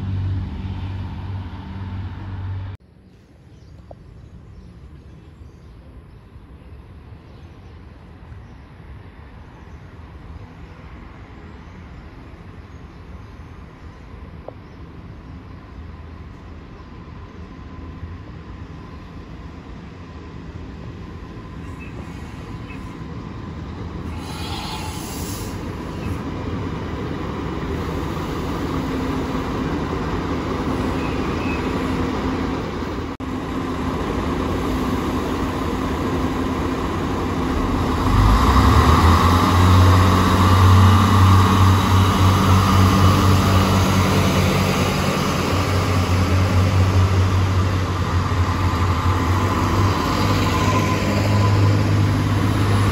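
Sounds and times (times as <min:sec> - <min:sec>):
diesel train approaching: 0:00.0 - 0:03.5, 0:04.3 - 0:52.9.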